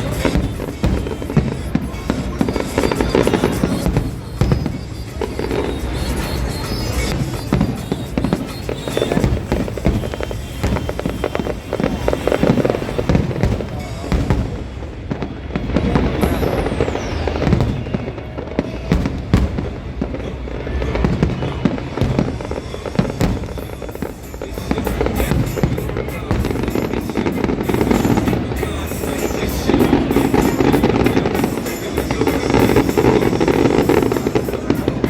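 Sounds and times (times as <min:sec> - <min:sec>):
falling firework whistle: 0:00.0 - 0:35.0
fireworks bangs and crackling: 0:00.0 - 0:35.0.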